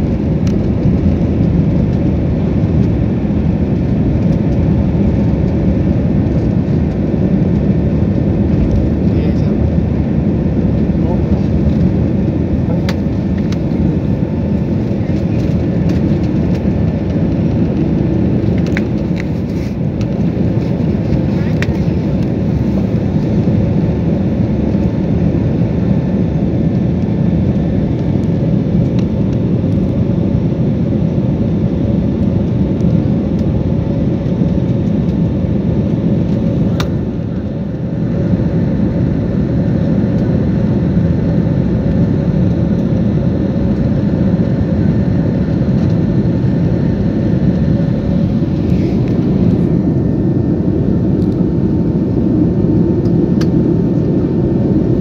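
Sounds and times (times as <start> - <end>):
faint steady whine: 0.0 - 55.0
jet engines and airflow rushing: 0.0 - 55.0.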